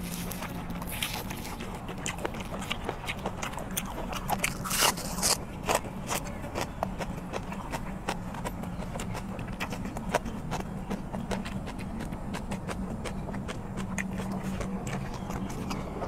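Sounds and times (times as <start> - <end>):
chewing raw green onion: 0.0 - 16.0
steady low hum: 0.0 - 16.0.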